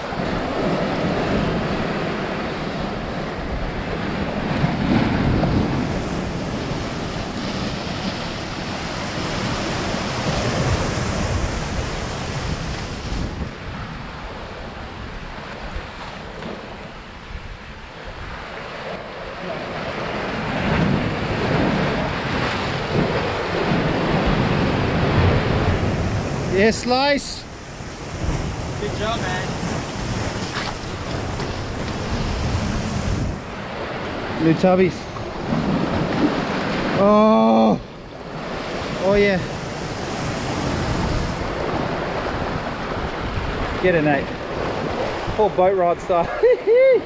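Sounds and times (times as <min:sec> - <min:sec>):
surf washing against rocks: 0:00.0 - 0:47.0
wind buffeting microphone: 0:00.0 - 0:47.0.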